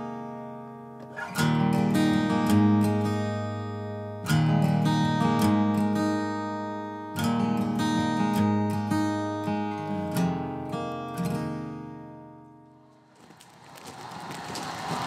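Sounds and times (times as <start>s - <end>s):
acoustic guitar strumming: 0.0s - 12.9s.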